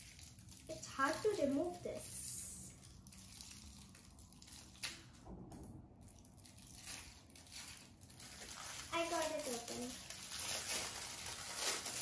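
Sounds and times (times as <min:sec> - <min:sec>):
plastic bag crinkling and tearing: 0:00.0 - 0:05.3, 0:06.0 - 0:12.0.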